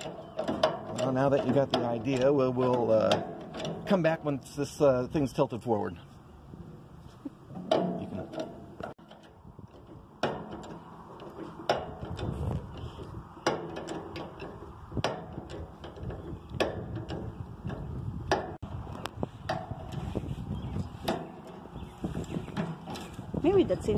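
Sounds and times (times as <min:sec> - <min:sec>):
hydraulic pump clacking: 0:00.0 - 0:04.8, 0:07.5 - 0:20.2, 0:20.8 - 0:23.9.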